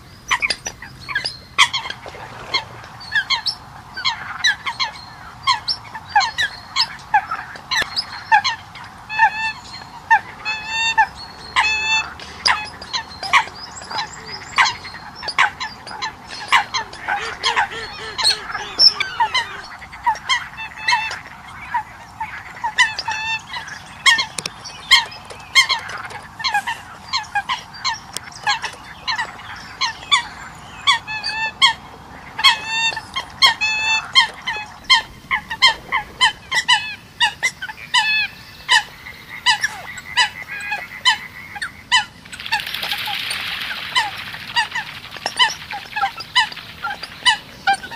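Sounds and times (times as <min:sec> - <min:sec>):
coots calling: 0:00.0 - 0:47.9
steady background hiss: 0:00.0 - 0:47.9.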